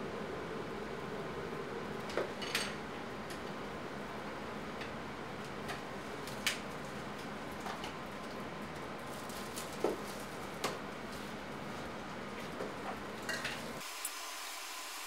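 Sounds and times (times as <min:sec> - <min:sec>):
steady background noise: 0:00.0 - 0:13.8.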